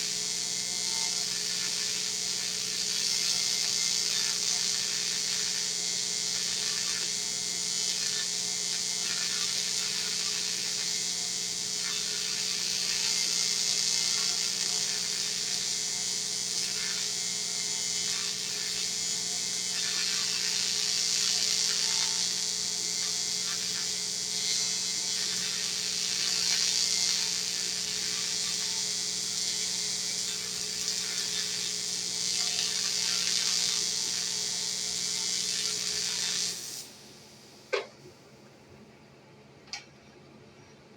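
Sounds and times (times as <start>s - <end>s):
welding arc buzzing: 0.0s - 37.9s.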